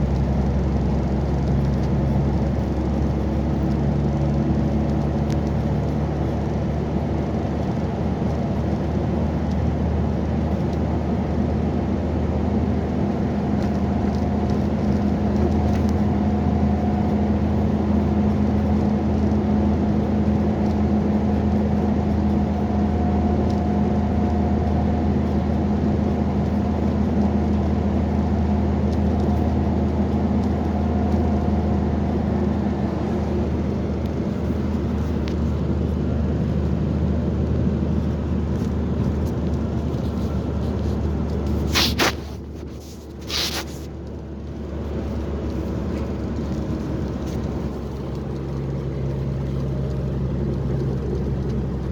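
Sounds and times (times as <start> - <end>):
heavy vehicle engine droning: 0.0 - 51.9.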